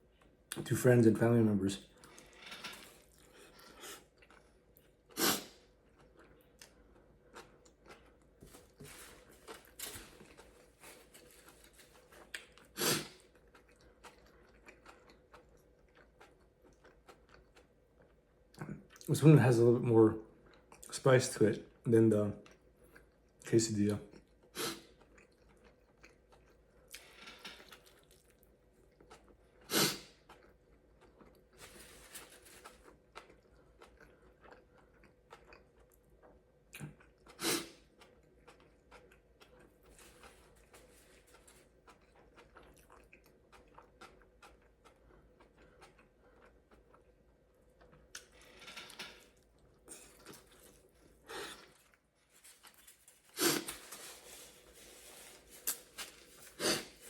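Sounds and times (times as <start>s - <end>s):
wet chewing sounds: 1.8s - 19.1s, 22.4s - 57.0s.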